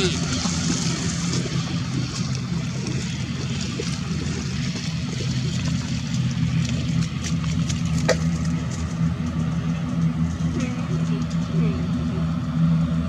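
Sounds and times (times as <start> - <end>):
turboprop engines humming: 0.0 - 13.0.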